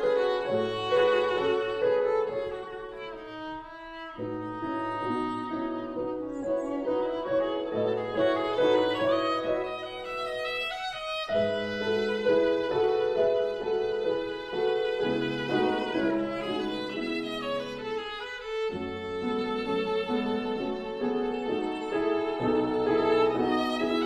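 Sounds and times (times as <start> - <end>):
slow violin melody: 0.0 - 24.0.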